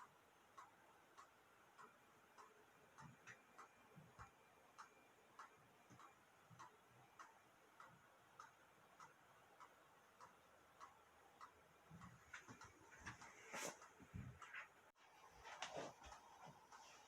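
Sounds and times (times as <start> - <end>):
faint regular ticking: 0.0 - 17.0.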